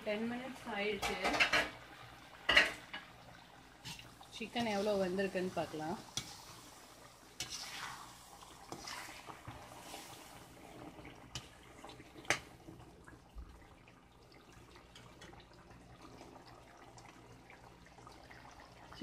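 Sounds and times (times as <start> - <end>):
gravy bubbling: 1.4 - 19.0.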